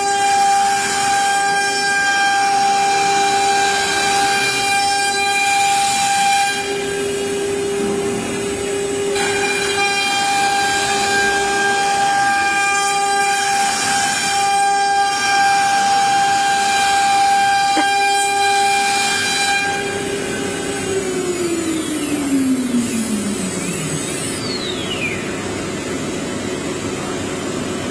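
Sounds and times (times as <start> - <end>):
machine spindle whining: 0.0 - 27.9.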